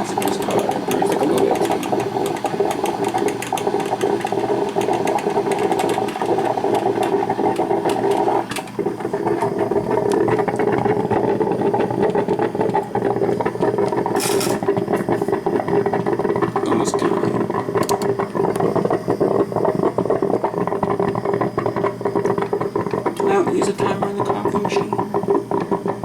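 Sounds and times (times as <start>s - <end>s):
coffee maker brewing: 0.0s - 26.0s.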